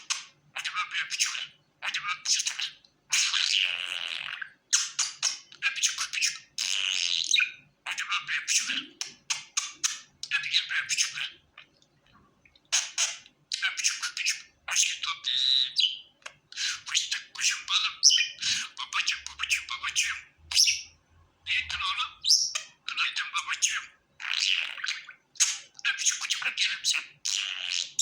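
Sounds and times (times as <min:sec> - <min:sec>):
budgerigar warbling and chattering: 0:00.0 - 0:11.7, 0:12.7 - 0:28.0.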